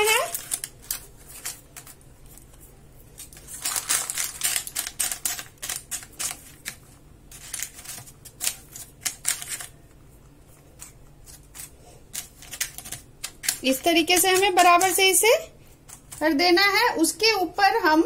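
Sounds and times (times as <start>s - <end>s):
butter paper crackling: 0.0s - 16.4s.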